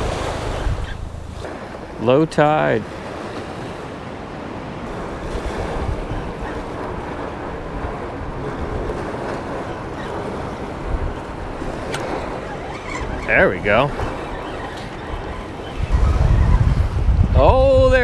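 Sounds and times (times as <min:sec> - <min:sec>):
small waves washing on shore: 0:00.0 - 0:18.0
wind buffeting microphone: 0:00.0 - 0:18.0.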